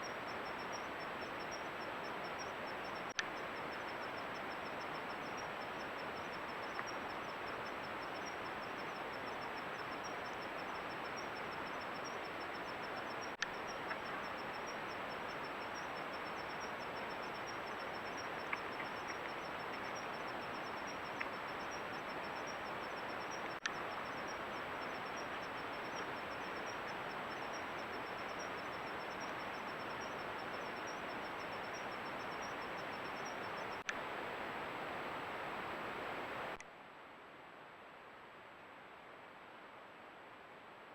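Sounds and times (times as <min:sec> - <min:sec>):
faint high ticking: 0:00.0 - 0:34.0
night ambience hiss: 0:00.0 - 0:40.9.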